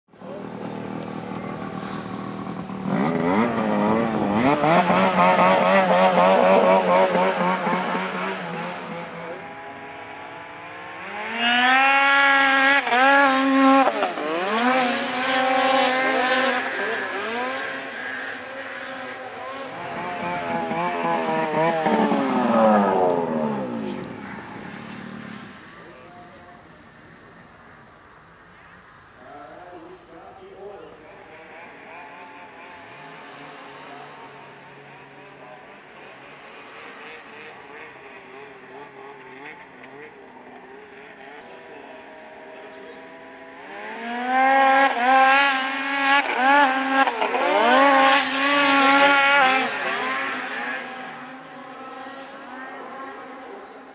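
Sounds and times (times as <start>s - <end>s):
snowmobile engines revving: 0.2s - 53.9s.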